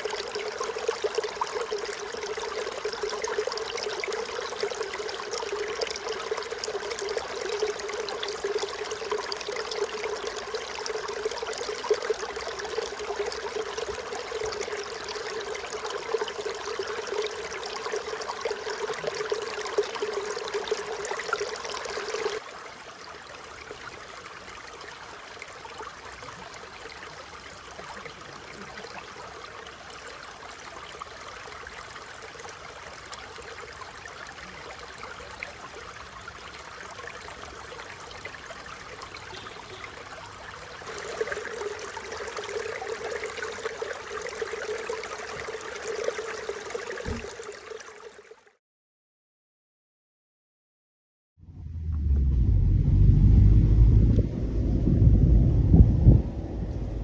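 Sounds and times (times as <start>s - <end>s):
stream flowing over rocks: 0.0s - 48.5s.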